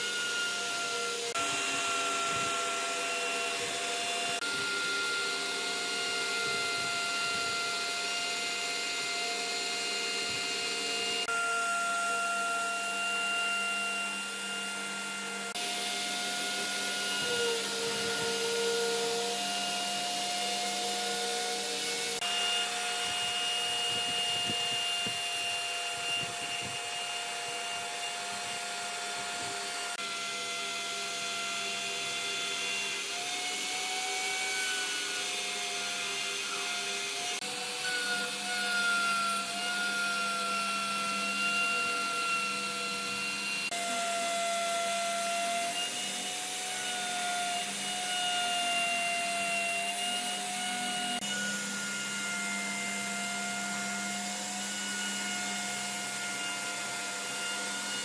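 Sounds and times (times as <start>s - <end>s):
power tool whining: 0.0s - 58.0s.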